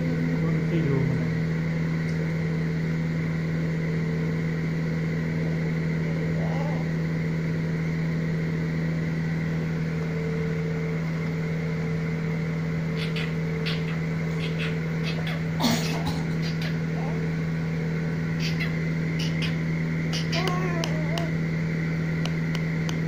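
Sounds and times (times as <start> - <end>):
motor hum: 0.0 - 23.0.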